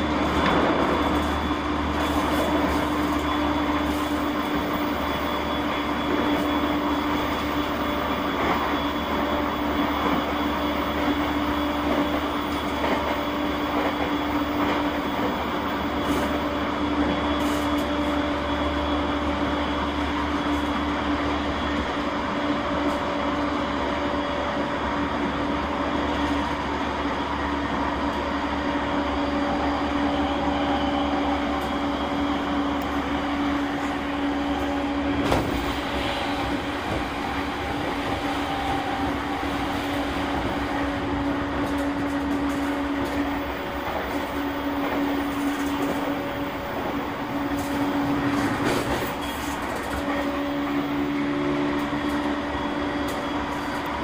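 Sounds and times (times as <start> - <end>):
train motor hum: 0.0 - 54.0
train wheels rumbling on rail: 0.0 - 54.0.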